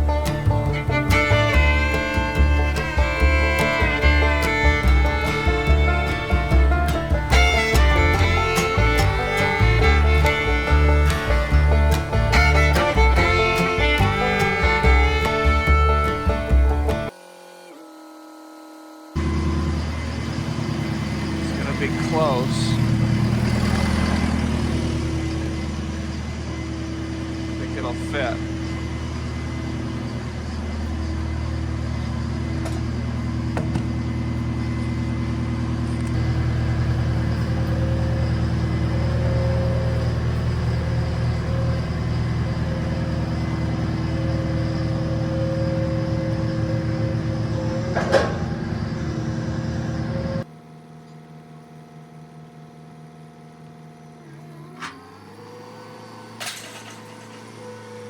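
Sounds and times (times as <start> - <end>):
tractor engine running: 0.0 - 17.2, 19.2 - 50.5.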